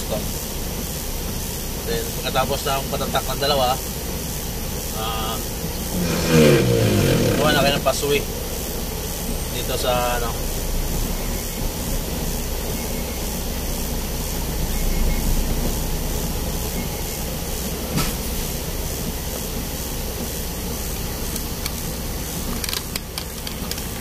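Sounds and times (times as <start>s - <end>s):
constant hiss: 0.0s - 24.0s
truck engine running low: 0.0s - 24.0s.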